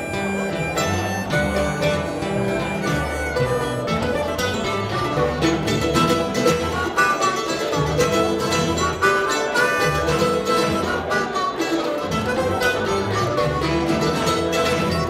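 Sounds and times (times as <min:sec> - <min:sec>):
plucked strings: 0:00.0 - 0:15.0
upright bass: 0:00.0 - 0:15.0.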